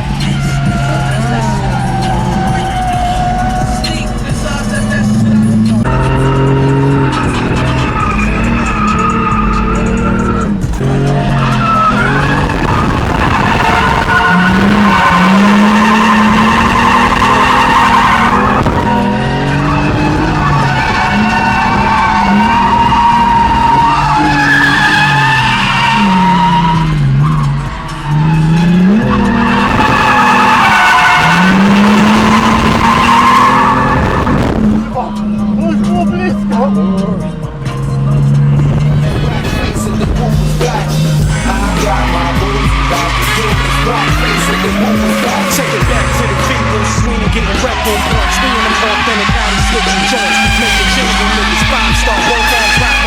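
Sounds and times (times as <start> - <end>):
car engine at high revs: 0.0 - 53.0
tyres skidding and squealing: 0.0 - 53.0.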